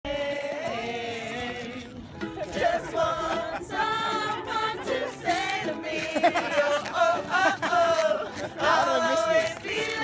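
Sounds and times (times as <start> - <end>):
music with singing: 0.1 - 10.0.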